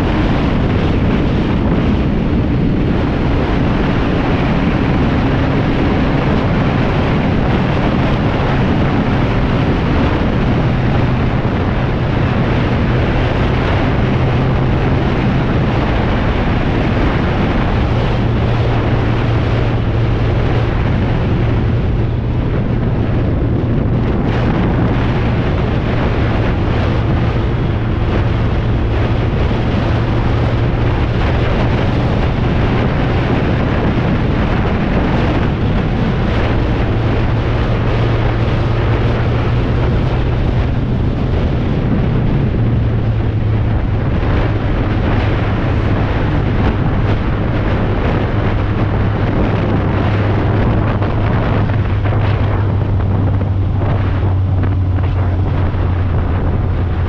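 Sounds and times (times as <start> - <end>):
motorcycle engine running: 0.0 - 57.0
wind rush over microphone: 0.0 - 57.0.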